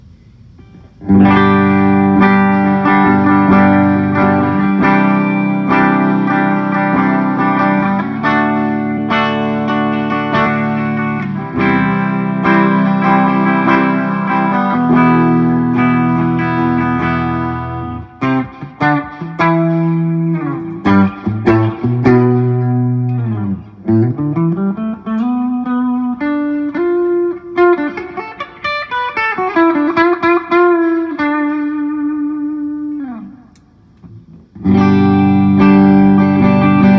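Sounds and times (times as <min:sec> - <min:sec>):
electric guitar through amplifier: 0:00.0 - 0:36.9.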